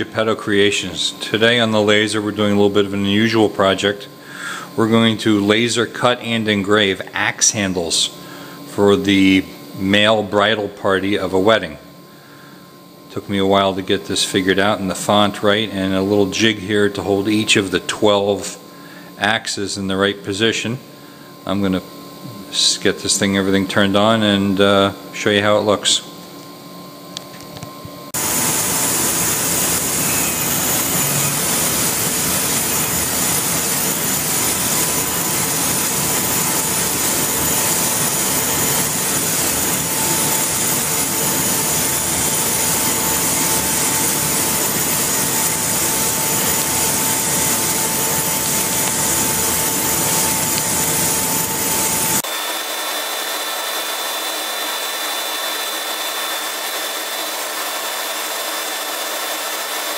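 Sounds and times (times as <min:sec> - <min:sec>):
rushing air from blowers: 0:00.0 - 0:26.0, 0:28.2 - 0:59.9
faint steady whine: 0:00.0 - 0:59.8.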